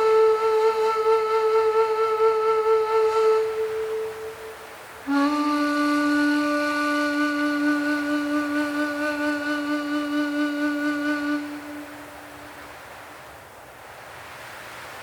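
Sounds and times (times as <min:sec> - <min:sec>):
long flute-like note: 0:00.0 - 0:12.8
soft hiss: 0:00.0 - 0:15.0.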